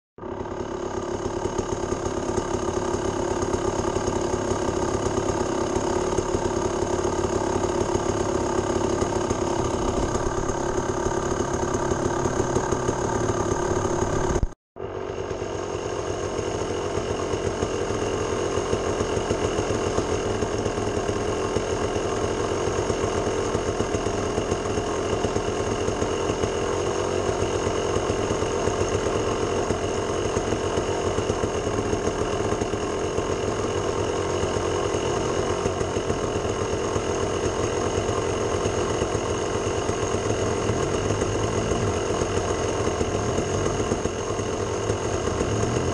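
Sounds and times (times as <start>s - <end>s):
atv engine running: 0.2s - 45.9s.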